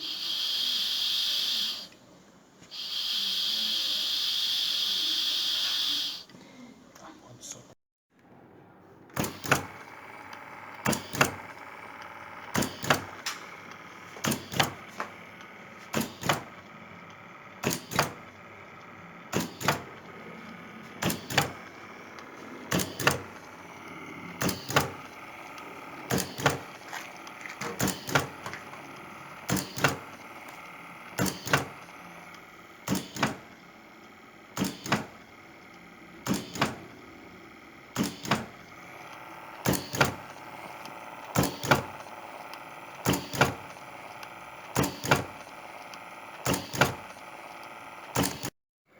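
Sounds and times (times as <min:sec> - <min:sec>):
steady motor whir: 0:00.0 - 0:02.0, 0:02.7 - 0:06.3, 0:09.0 - 0:48.6
sharp mechanical clicks: 0:09.1 - 0:48.6.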